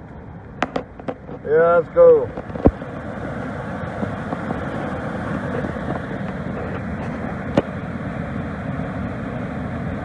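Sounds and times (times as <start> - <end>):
water rushing: 1.5 - 10.0.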